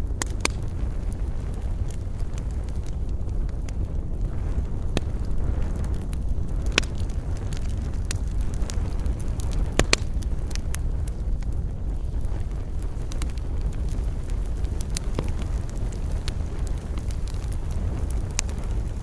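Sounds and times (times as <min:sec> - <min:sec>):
campfire crackling and popping: 0:00.0 - 0:19.0
low rumble of flame: 0:00.0 - 0:19.0.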